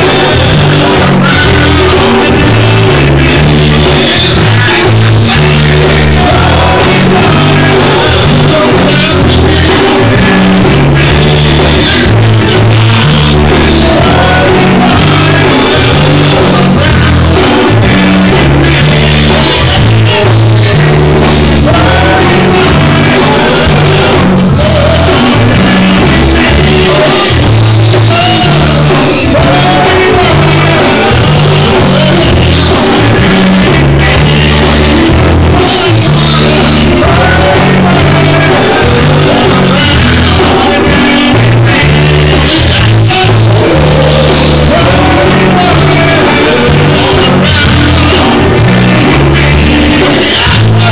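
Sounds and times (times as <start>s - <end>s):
lead singer singing: 0.0s - 50.9s
live rock band playing: 0.0s - 50.9s.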